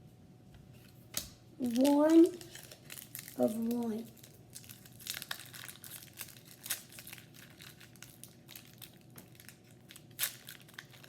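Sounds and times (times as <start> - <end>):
card packaging crinkling: 1.6 - 11.0.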